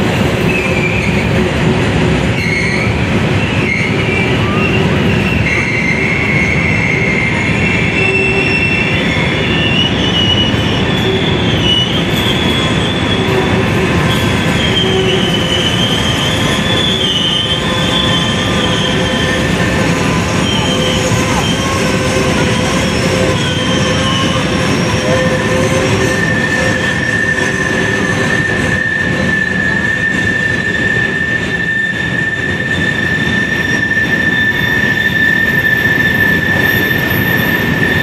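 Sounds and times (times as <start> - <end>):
high wheel squeal: 0.0 - 1.3, 2.3 - 38.0
train wheels rumbling on rail: 0.0 - 38.0.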